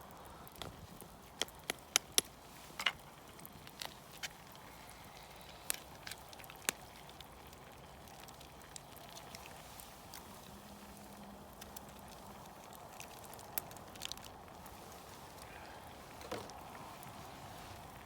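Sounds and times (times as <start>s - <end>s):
campfire crackling and popping: 0.0s - 18.0s
low steady hiss: 0.0s - 18.0s.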